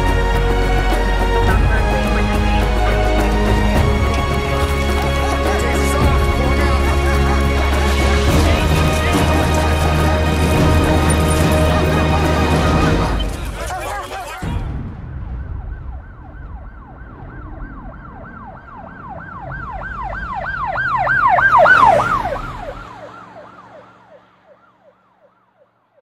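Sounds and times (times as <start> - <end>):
low rumble: 0.0 - 13.7, 14.4 - 23.0
police siren yelping: 0.0 - 14.6, 15.4 - 25.8.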